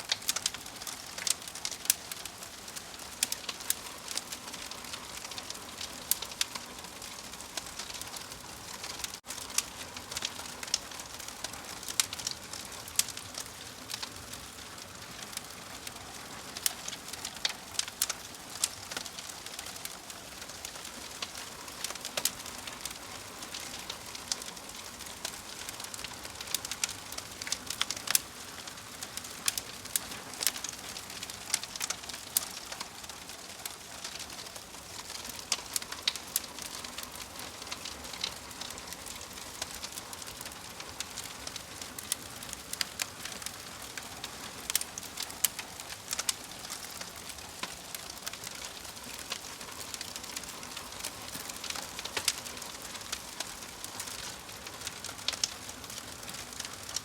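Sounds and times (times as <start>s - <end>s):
soft steady hiss: 0.0s - 57.0s
wood fire crackling: 0.0s - 57.0s.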